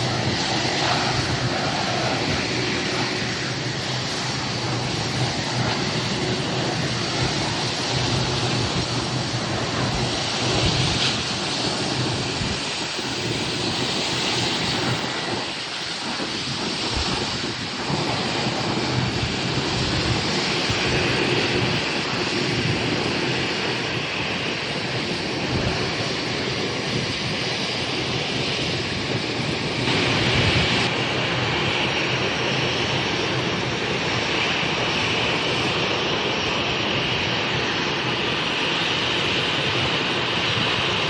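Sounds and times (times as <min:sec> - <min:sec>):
jet engines rushing: 0:00.0 - 0:41.0.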